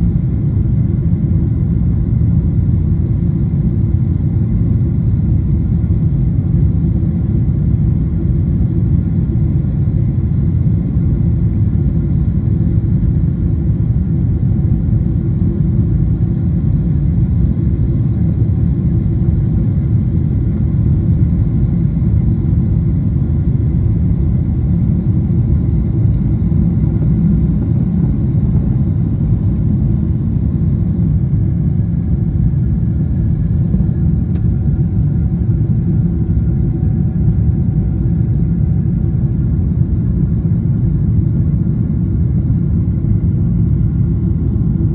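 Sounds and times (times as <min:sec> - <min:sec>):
jet cabin low rumble: 0:00.0 - 0:44.9.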